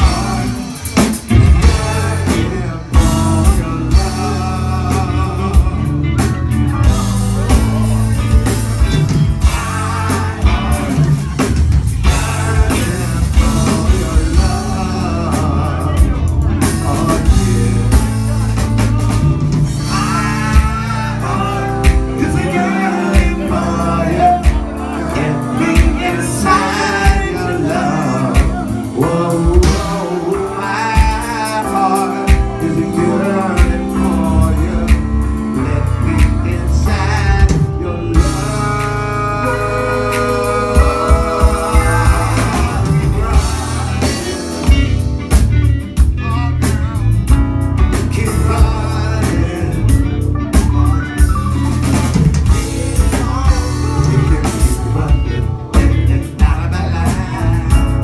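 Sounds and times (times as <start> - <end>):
person singing: 0.0 - 45.4, 47.9 - 58.0
drum kit: 0.0 - 58.0
electric guitar: 0.0 - 58.0
keyboard: 0.0 - 58.0.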